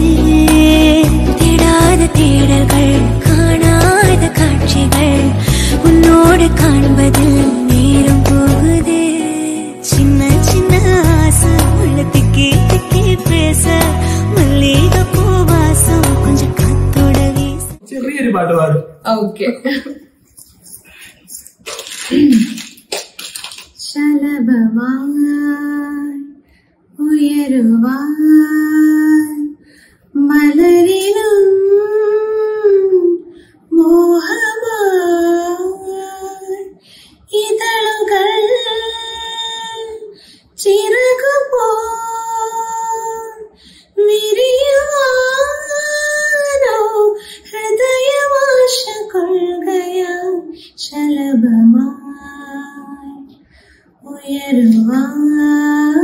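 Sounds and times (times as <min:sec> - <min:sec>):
woman singing unaccompanied: 0:00.0 - 0:17.8, 0:23.8 - 0:26.4, 0:27.0 - 0:53.4, 0:54.0 - 0:56.0.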